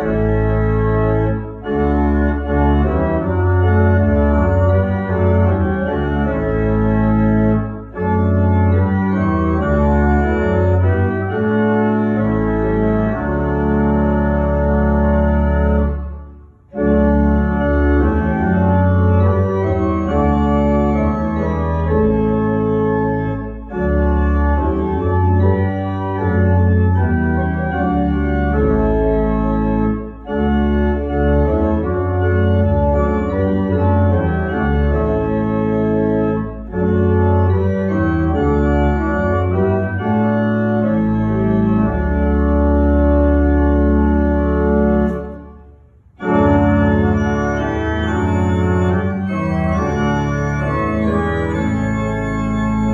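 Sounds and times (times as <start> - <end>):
pipe organ playing chords: 0.0 - 52.9.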